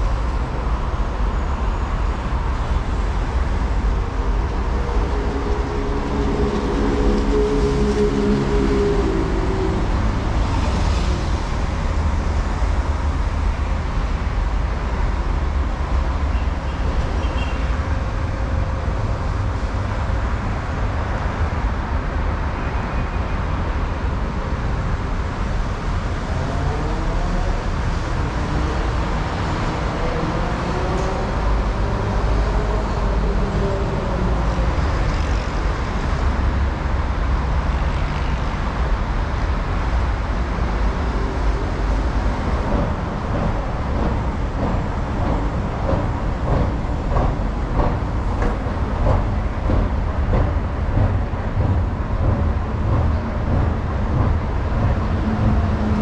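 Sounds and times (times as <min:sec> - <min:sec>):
heavy road traffic rumble: 0:00.0 - 0:56.0.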